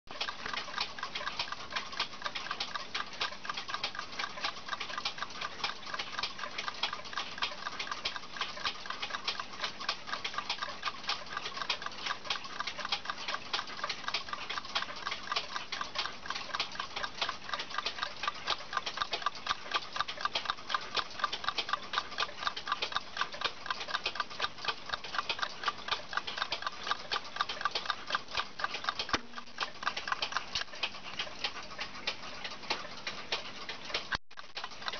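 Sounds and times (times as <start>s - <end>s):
clockwork timer ticking: 0.1s - 34.9s.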